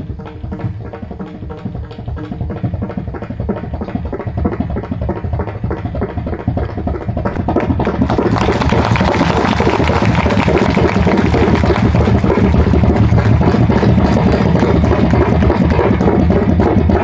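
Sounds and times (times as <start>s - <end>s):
deep bass drone: 0.0s - 17.0s
fast hand drum strokes: 0.0s - 17.0s.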